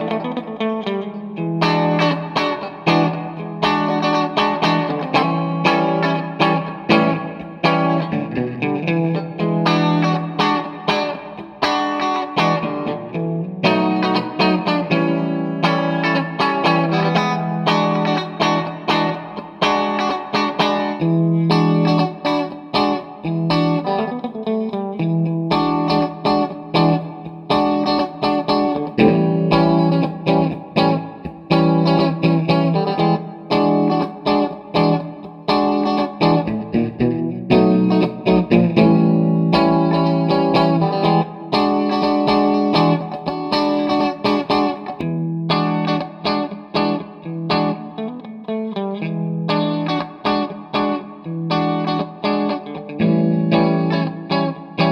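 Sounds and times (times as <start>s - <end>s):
electric guitar chords and notes: 0.0s - 54.9s.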